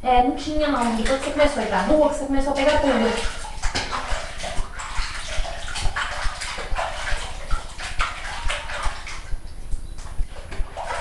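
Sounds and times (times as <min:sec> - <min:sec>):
hands scrubbing wet fur: 0:00.4 - 0:11.0
water splashing in plastic basin: 0:00.4 - 0:11.0.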